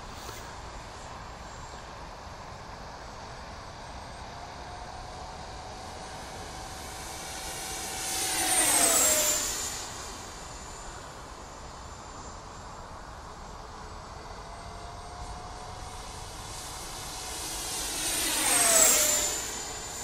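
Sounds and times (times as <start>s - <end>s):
rc jet ducted fans whining: 0.0s - 20.0s.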